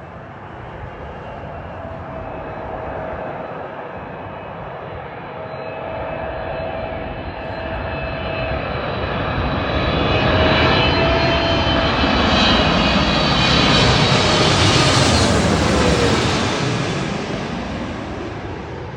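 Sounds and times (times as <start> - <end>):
jet engines whining on approach: 0.0 - 18.9.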